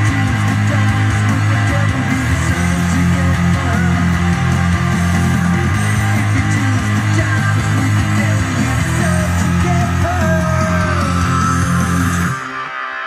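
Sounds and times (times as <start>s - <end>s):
guitar rock music: 0.0s - 13.0s.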